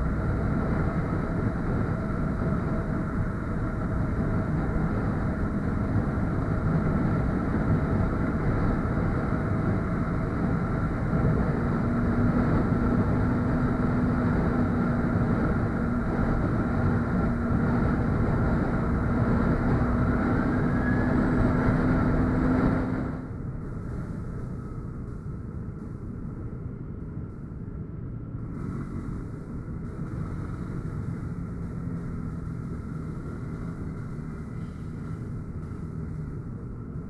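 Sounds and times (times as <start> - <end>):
motorcycle engine cruising: 0.0 - 26.1, 28.2 - 37.0
wind and road noise: 0.0 - 37.0.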